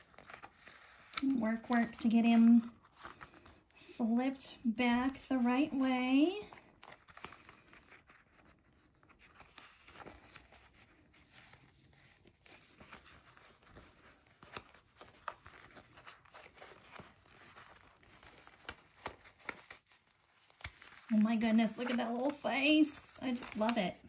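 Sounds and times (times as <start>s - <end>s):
vinyl pouch rustling and crackling: 0.0s - 24.0s.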